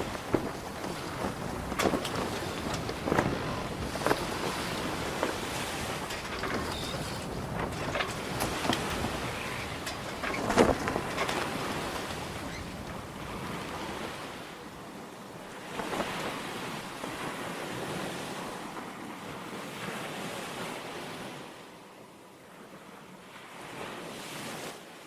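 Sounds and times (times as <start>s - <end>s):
sea waves washing in: 0.0s - 21.7s
wind: 0.0s - 25.0s.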